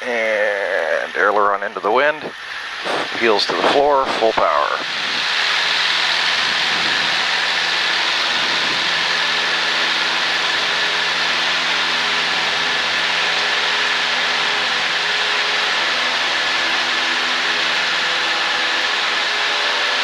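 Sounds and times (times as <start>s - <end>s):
light aircraft engine and propeller: 0.0s - 20.0s
loud rushing hiss: 1.8s - 20.0s.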